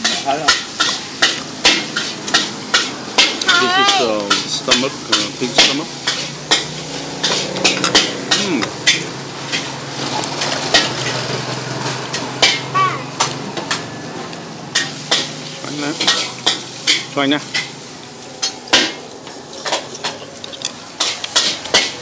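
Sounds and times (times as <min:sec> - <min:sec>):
metal utensils clinking on pans: 0:00.0 - 0:14.0, 0:14.7 - 0:22.0.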